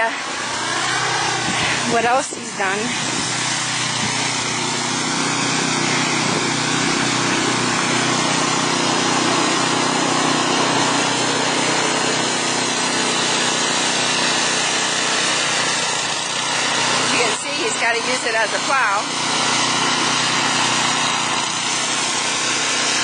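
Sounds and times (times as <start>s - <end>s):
snowblower engine running: 0.0s - 23.0s.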